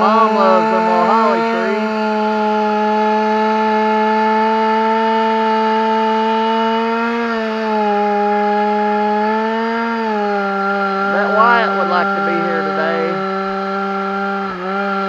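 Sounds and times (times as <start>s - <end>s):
chainsaw cutting wood: 0.7s - 11.2s, 13.2s - 15.0s.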